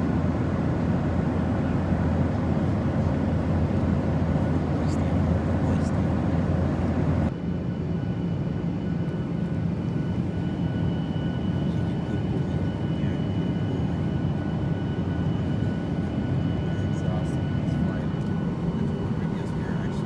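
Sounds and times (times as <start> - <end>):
engine and airflow rumble: 0.0 - 20.0.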